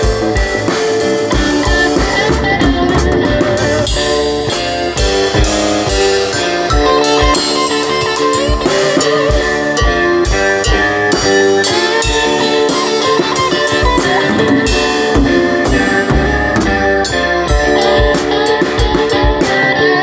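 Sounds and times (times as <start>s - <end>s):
drum kit playing: 0.0s - 20.0s
recorded song with guitar: 0.0s - 20.0s.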